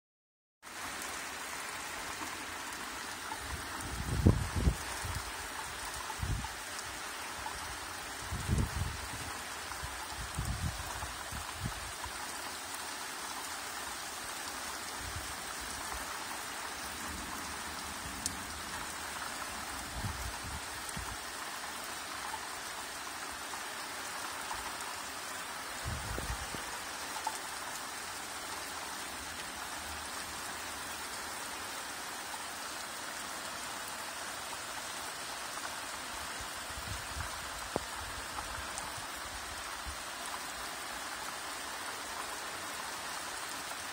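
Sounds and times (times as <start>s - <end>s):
steady rain falling: 0.6s - 43.9s.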